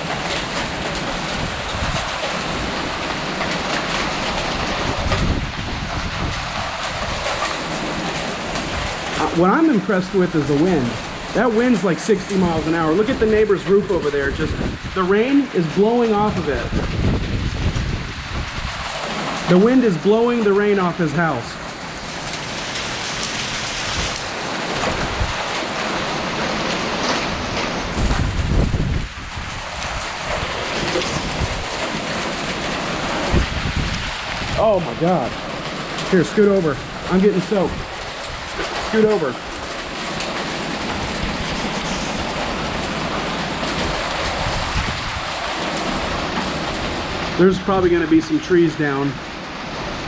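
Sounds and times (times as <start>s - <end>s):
wind rumbling on microphone: 0.0s - 9.5s, 10.2s - 50.0s
heavy rain: 0.0s - 50.0s
strong gusting wind: 0.0s - 50.0s.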